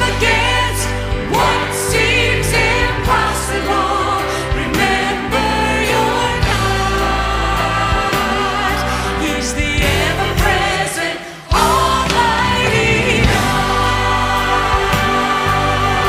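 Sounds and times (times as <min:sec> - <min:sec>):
choir singing: 0:00.0 - 0:16.0
orchestra playing: 0:00.0 - 0:16.0
soloists singing: 0:00.0 - 0:16.0.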